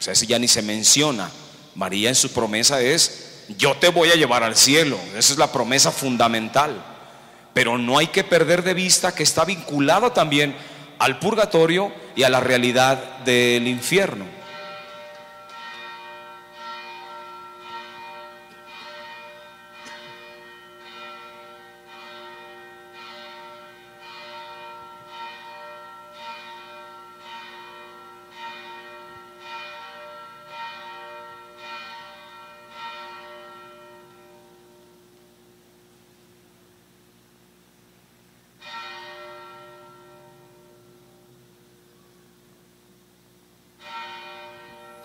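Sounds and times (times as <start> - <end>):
church bell ringing: 0.0 - 37.1, 38.5 - 45.0.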